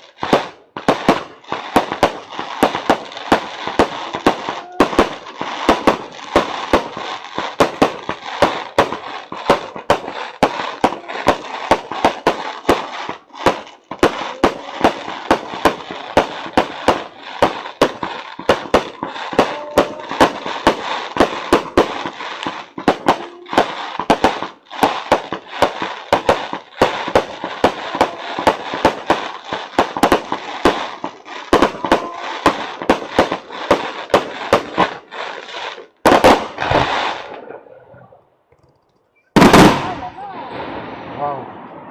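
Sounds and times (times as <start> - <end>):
fireworks crackling hiss: 0.0 - 37.5, 39.4 - 41.9
fireworks bangs: 0.0 - 38.5, 39.3 - 41.9.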